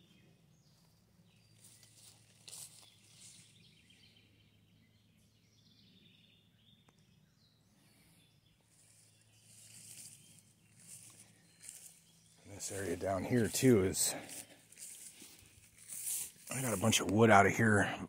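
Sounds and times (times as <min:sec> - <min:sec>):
distant bird chirps: 0:00.0 - 0:18.0.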